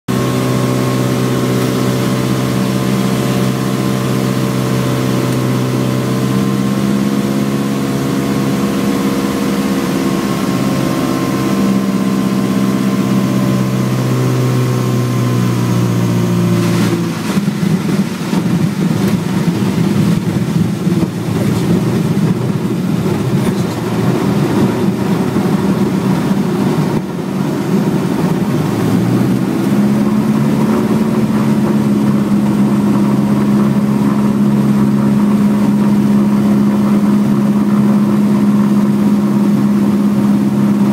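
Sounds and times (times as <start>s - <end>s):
aircraft piston engine: 0.1s - 40.9s
water rushing against hull: 0.1s - 40.9s.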